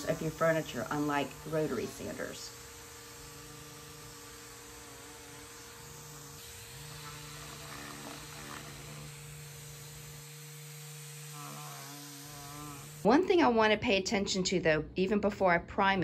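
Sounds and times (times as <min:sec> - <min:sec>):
sander and vacuum hum: 0:00.0 - 0:13.2.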